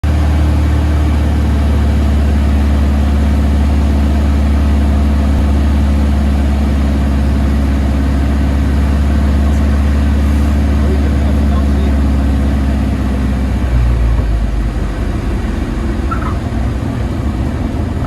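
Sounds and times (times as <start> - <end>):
aircraft engine droning in cockpit: 0.0 - 18.0.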